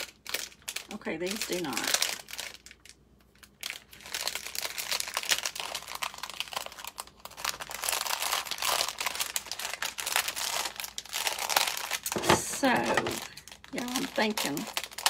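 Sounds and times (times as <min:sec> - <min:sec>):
plastic packet crinkling: 0:00.0 - 0:15.0.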